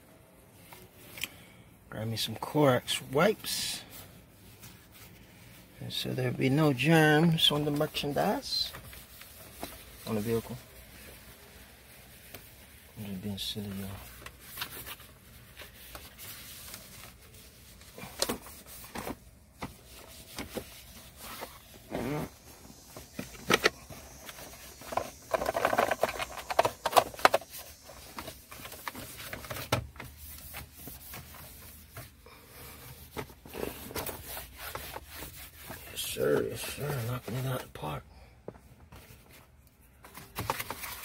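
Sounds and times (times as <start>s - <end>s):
wipe rubbing on plastic: 2.4s - 38.0s.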